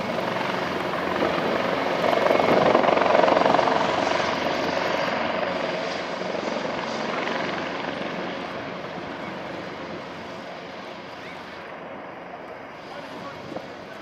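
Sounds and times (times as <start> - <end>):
helicopter rotor and turbine noise: 0.0 - 14.0.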